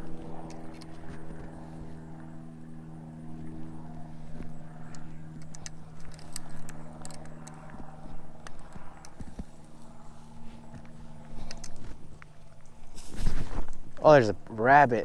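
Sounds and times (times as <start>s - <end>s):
crunching footsteps in brush: 0.0s - 14.6s
low machine hum: 0.0s - 15.0s.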